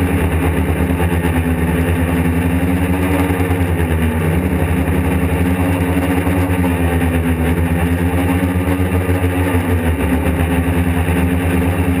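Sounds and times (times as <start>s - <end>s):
quadcopter propellers buzzing: 0.0s - 12.0s.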